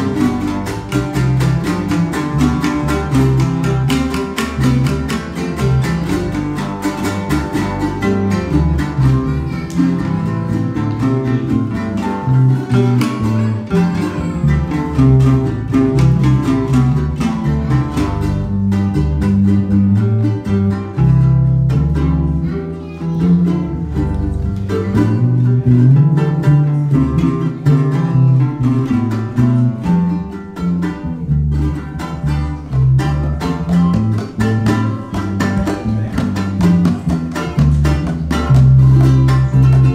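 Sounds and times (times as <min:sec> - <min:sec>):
electric bass line: 0:00.0 - 0:39.9
strummed acoustic string instruments: 0:00.0 - 0:39.9.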